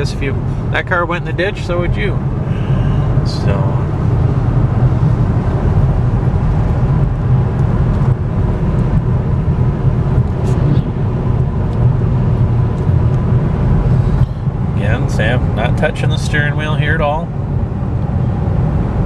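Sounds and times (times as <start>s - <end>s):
road and tyre noise: 0.0s - 19.0s.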